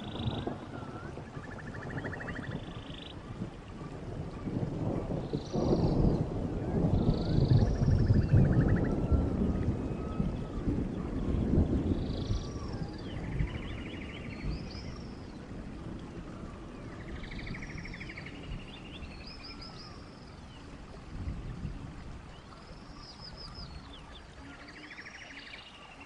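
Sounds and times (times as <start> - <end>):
low rumbling hiss: 0.0 - 26.0.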